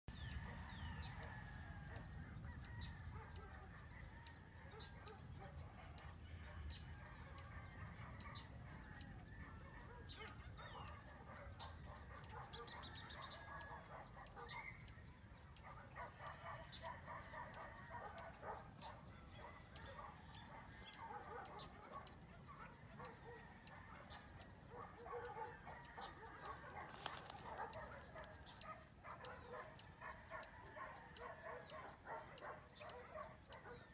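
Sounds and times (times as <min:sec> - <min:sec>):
flock of birds calling: 0:00.2 - 0:33.9.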